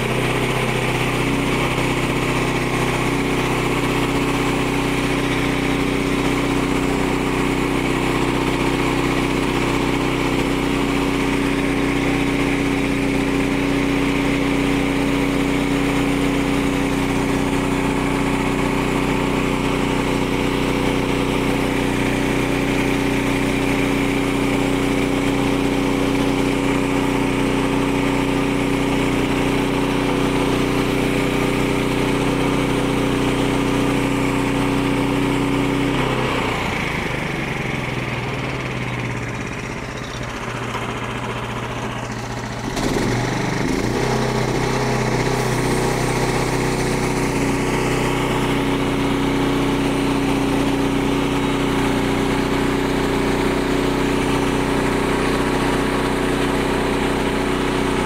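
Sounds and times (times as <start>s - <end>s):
bandsaw mill petrol engine running: 0.0s - 58.0s.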